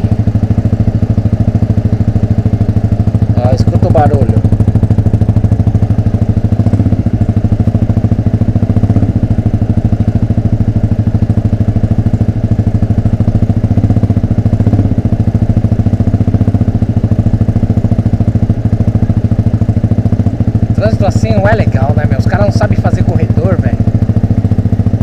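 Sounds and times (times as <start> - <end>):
motorcycle exhaust at low revs: 0.0 - 25.0.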